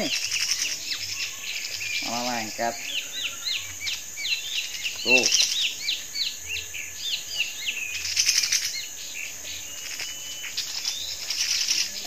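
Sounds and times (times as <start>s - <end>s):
high insect drone: 0.0s - 12.0s
small birds chirping: 0.0s - 12.0s.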